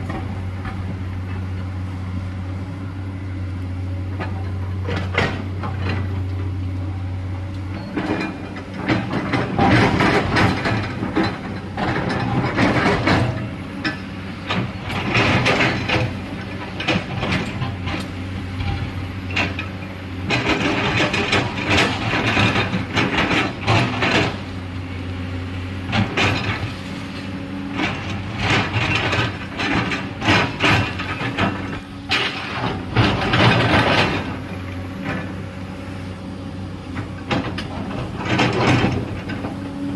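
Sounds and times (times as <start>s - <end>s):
diesel excavator engine: 0.0s - 39.9s.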